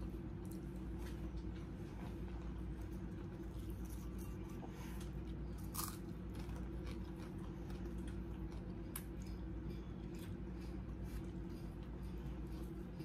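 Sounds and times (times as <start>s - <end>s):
crunching and chewing food: 0.0s - 13.0s
steady low hum: 0.0s - 13.0s.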